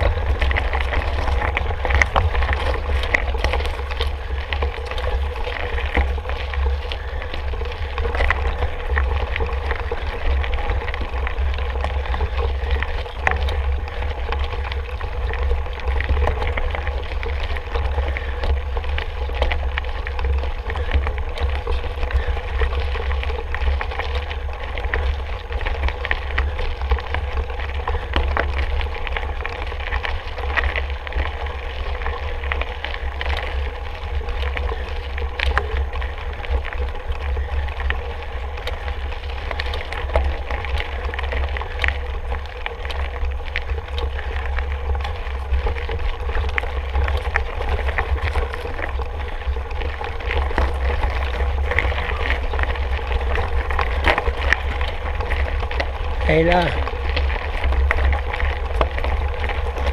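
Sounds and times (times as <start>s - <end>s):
bike rattles and clicks: 0.0s - 59.9s
tyre noise on trail: 0.0s - 59.9s.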